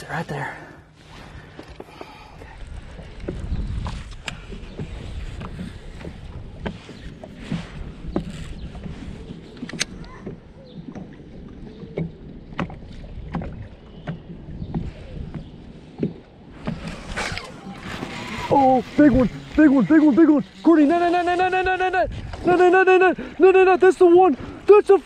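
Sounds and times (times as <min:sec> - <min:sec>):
water lapping against boat hull: 0:00.0 - 0:25.0
wind rumbling on microphone: 0:02.4 - 0:23.4.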